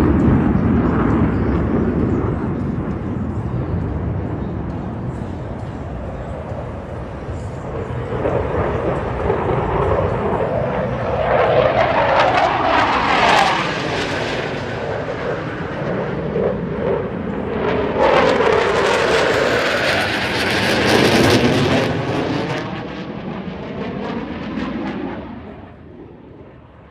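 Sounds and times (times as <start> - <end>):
fighter jets flying overhead: 0.0 - 26.9.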